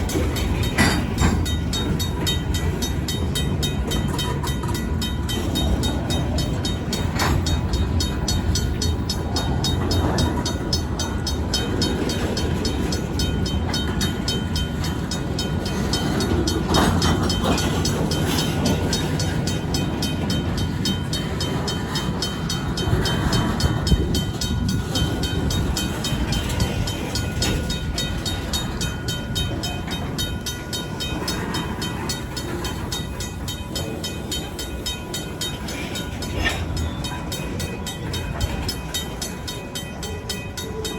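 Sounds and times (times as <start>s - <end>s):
crossing bell ringing: 0.0s - 40.9s
freight cars clanking: 0.0s - 40.9s
freight cars rumbling: 0.0s - 40.9s.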